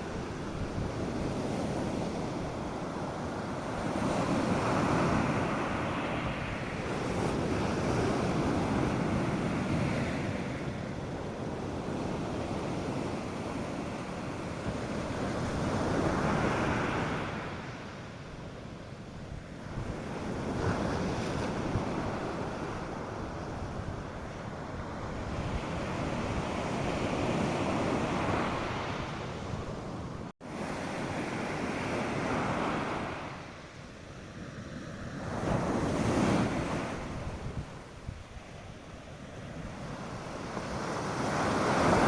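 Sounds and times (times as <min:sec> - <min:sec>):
surf washing up sandy beach: 0:00.0 - 0:42.0
wind on microphone: 0:00.0 - 0:42.0.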